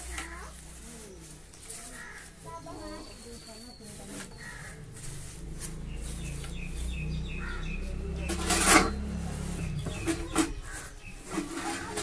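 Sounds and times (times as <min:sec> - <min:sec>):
scraping rustle of straw: 0:00.0 - 0:12.0.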